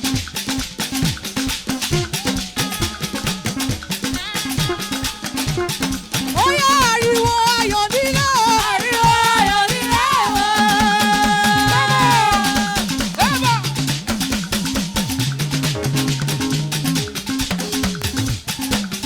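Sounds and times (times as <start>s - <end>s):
drums and shaker beat: 0.0s - 19.0s.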